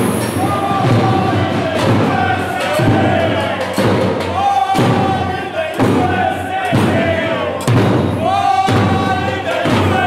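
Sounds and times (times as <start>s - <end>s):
strong drum beat: 0.0s - 10.0s.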